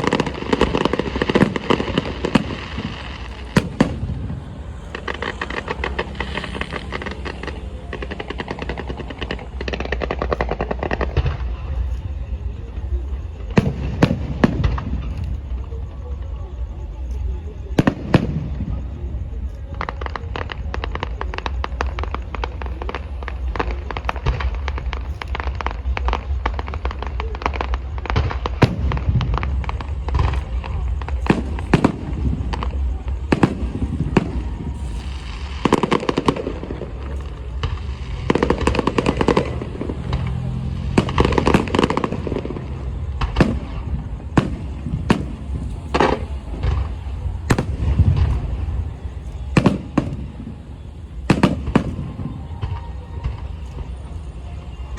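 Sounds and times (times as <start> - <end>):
firework bangs: 0.0 - 54.9
firework shell bursts and crackle: 0.0 - 54.9.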